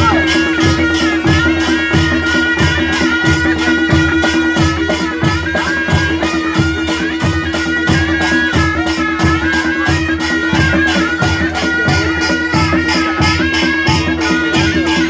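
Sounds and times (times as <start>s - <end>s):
cymbals clashing: 0.0s - 15.0s
drum beats: 0.0s - 15.0s
reedy wind instrument melody: 0.0s - 15.0s.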